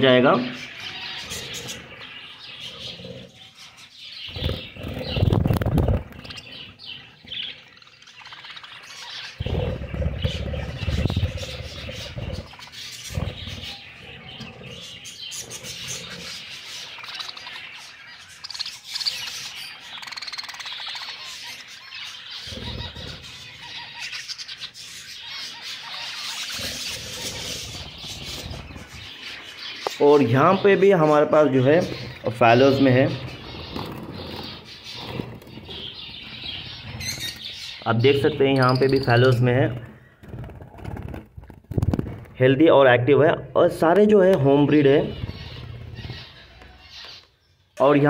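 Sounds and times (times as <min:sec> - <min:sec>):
budgerigars chirping: 0:00.0 - 0:41.2, 0:44.1 - 0:48.0.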